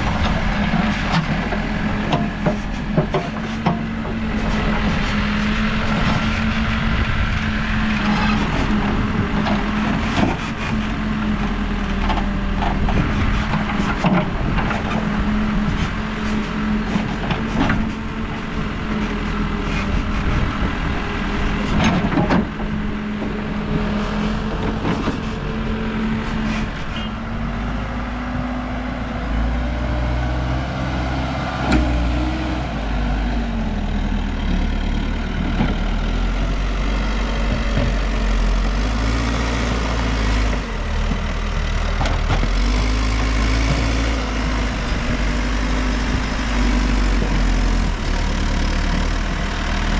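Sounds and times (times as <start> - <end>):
backhoe diesel engine working: 0.0 - 49.9.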